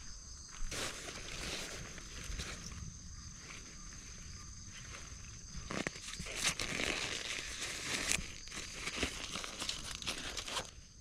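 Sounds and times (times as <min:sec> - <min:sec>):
ground sheet crinkling: 0:00.6 - 0:03.8, 0:04.8 - 0:11.0.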